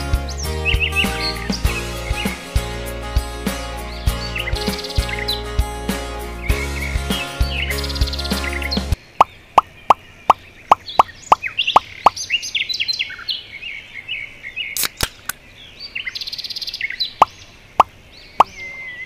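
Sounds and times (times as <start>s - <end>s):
birdsong: 0.0s - 19.0s.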